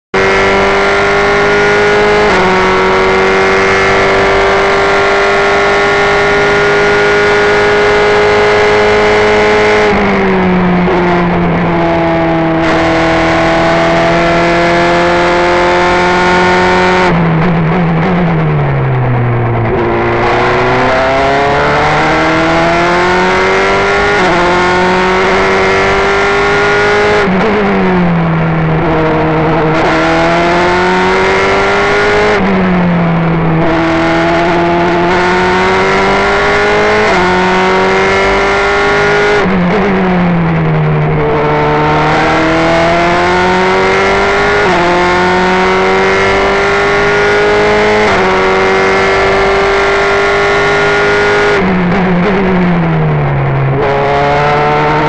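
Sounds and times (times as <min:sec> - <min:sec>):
racing car engine at full throttle: 0:00.0 - 0:55.0
downshifts with throttle blips: 0:00.2 - 0:55.0.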